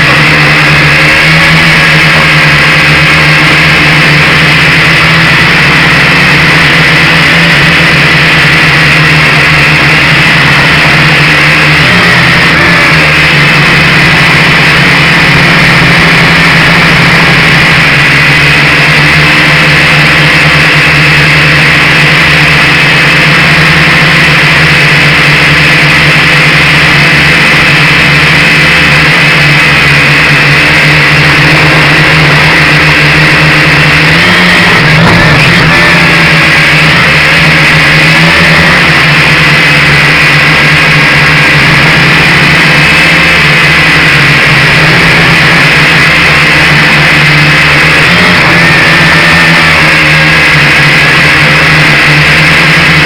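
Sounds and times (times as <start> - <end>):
drone propellers buzzing: 0.0 - 53.0.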